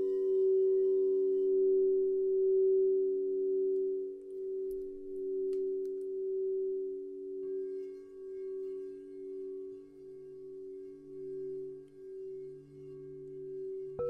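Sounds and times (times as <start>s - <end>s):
singing bowls chord: 0.0s - 14.0s.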